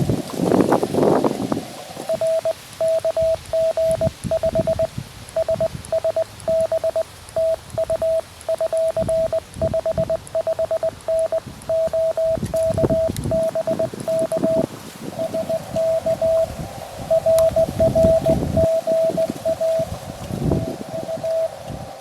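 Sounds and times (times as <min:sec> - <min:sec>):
morse code tone: 0:02.0 - 0:21.7.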